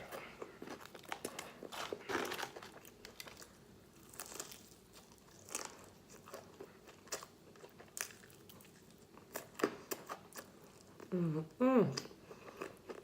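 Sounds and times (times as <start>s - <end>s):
crispy chicken crunching: 0.0s - 10.9s.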